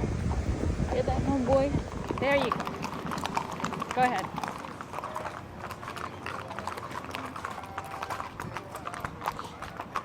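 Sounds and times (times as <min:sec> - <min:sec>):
horse hooves clip-clopping: 0:00.0 - 0:10.0.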